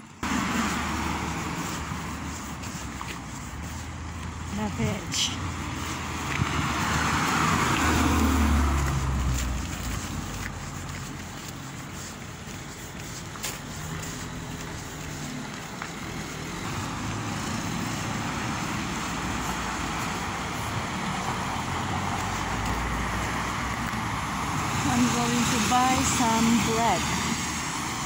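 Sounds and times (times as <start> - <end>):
car driving on wet road: 0.0 - 28.0.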